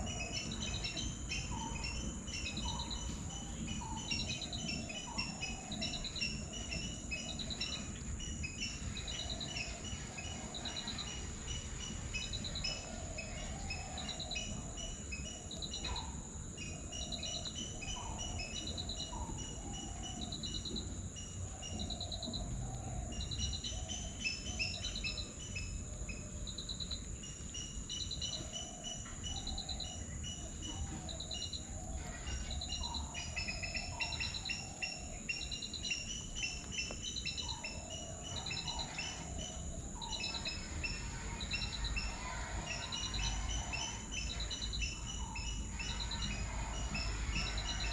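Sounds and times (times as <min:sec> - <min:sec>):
high-pitched insect drone: 0:00.0 - 0:47.9
low bird warbling calls: 0:00.0 - 0:47.9
rapid bird chirps: 0:00.0 - 0:47.9.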